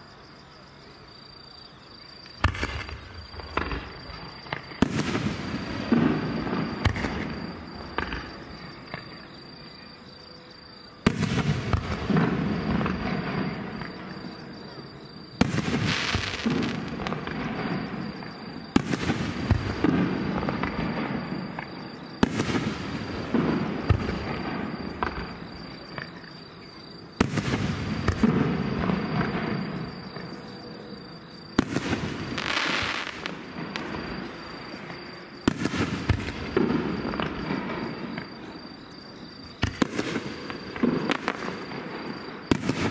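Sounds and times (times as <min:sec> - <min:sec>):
firework shells booming and crackling: 0:02.2 - 0:09.9, 0:11.0 - 0:38.8, 0:39.5 - 0:42.9.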